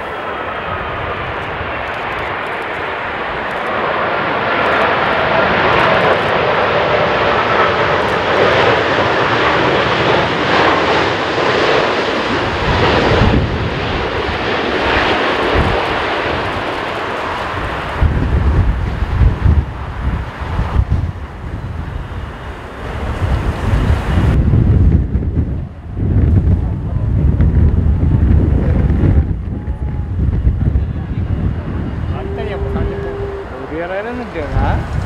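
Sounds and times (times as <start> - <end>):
jet airliner passing low: 0.0 - 35.0
wind buffeting microphone: 0.0 - 35.0.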